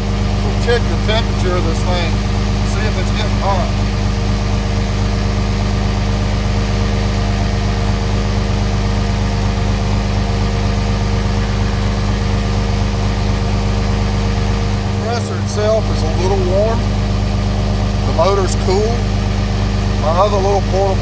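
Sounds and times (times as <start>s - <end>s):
air compressor running: 0.0s - 21.0s
diesel engine idling: 0.0s - 21.0s.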